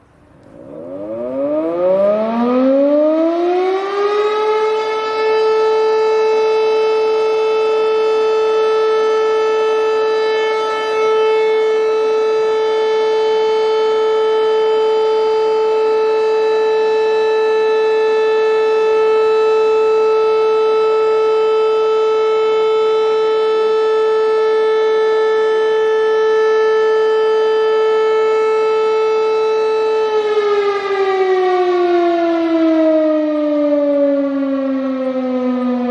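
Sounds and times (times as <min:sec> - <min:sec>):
fire siren winding up: 0:00.4 - 0:35.9.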